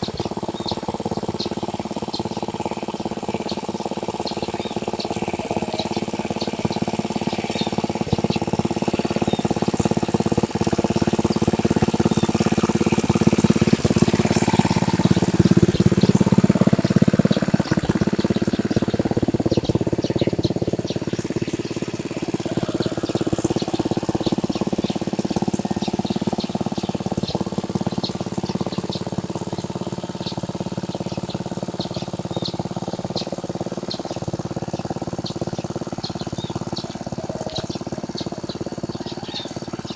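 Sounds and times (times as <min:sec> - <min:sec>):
birds chirping: 0:00.0 - 0:39.9
tractor engine running: 0:00.0 - 0:39.9.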